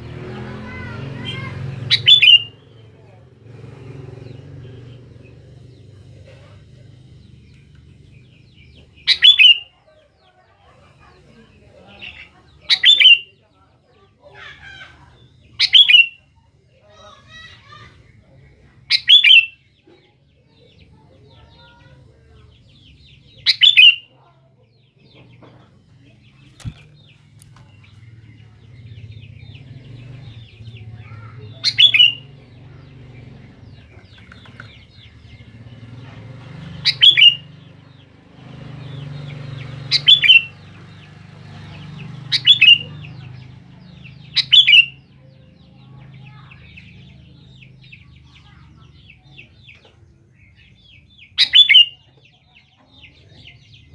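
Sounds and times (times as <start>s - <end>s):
faint bird twittering: 0.4s - 53.9s.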